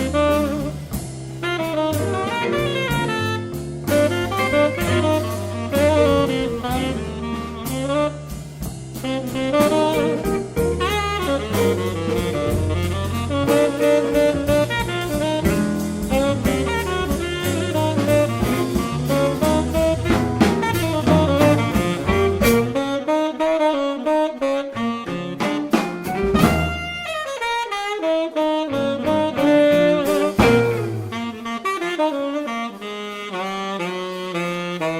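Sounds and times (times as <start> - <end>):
bass: 0.0 - 34.9
drums with cymbal strokes: 0.0 - 34.9
saxophone solo: 0.0 - 34.9.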